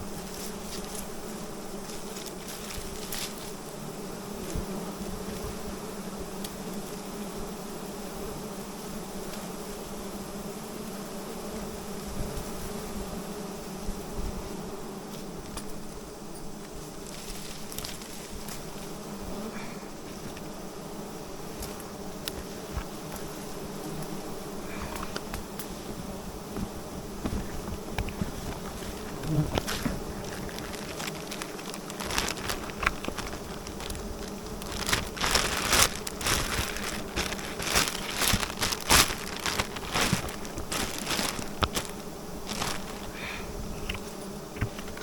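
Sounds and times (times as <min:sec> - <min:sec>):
honeybees buzzing: 0:00.0 - 0:45.0.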